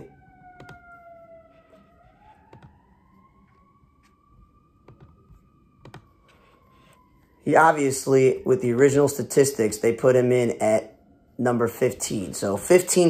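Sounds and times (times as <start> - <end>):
faint siren wailing: 0.0 - 13.0.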